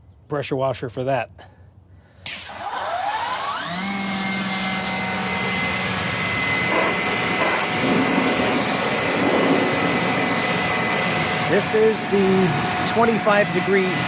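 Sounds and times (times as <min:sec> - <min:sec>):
pressure washer motor whine: 0:02.3 - 0:14.0.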